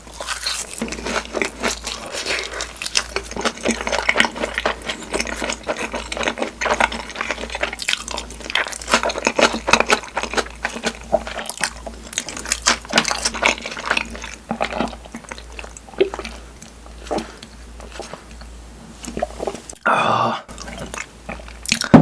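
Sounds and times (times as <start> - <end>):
wet chewing and lip-smacking: 0.1 - 19.8, 20.5 - 22.0.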